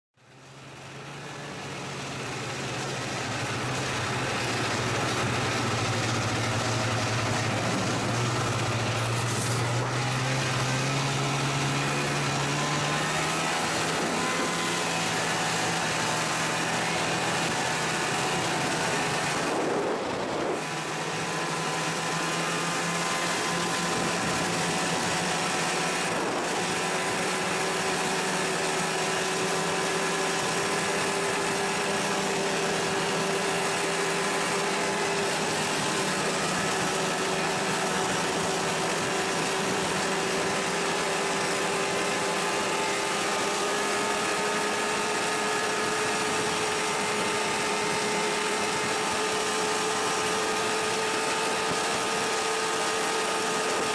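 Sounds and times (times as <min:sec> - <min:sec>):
snowmobile engine running: 0:00.2 - 0:53.9.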